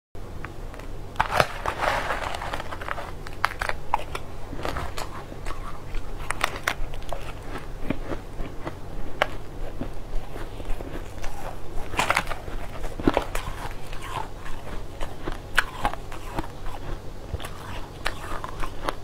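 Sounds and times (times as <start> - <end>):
crunching and chewing: 0.4 - 19.0.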